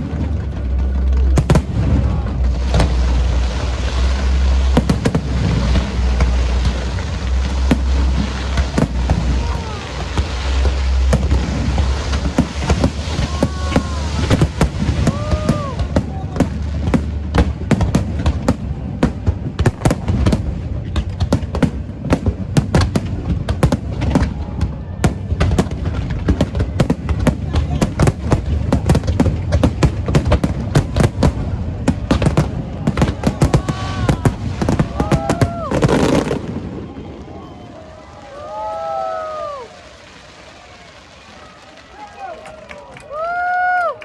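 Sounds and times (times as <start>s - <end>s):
low rumble: 0.0s - 38.1s
fireworks bangs and crackles: 0.0s - 44.0s.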